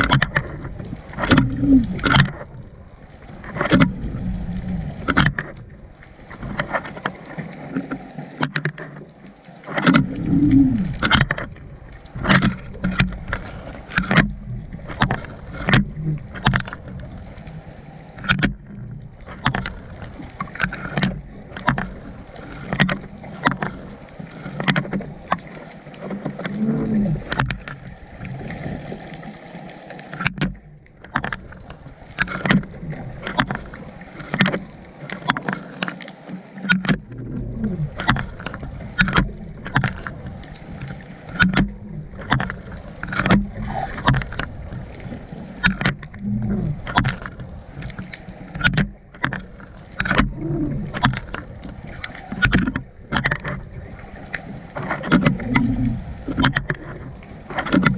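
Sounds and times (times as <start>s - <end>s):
low underwater hum: 0.0s - 57.9s
sharp underwater knocks and clicks: 0.0s - 57.9s.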